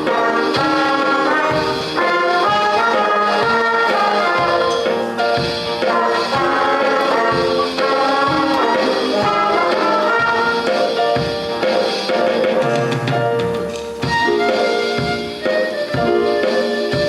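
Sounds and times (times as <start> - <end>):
jazz band playing blues: 0.0 - 17.0.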